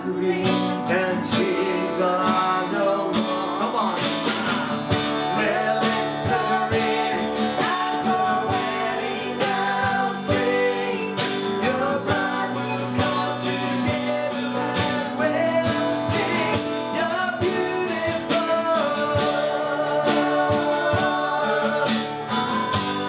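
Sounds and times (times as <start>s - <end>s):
guitar: 0.0s - 23.0s
worship band music: 0.0s - 23.0s
steady drum beat: 2.4s - 23.0s.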